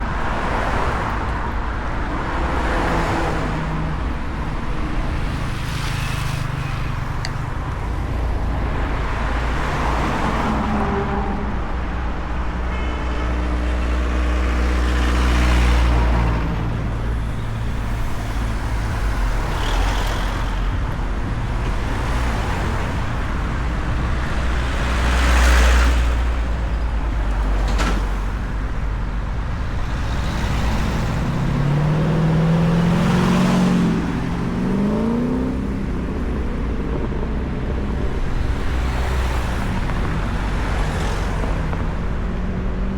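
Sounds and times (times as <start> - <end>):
vehicles passing on street: 0.0 - 42.9.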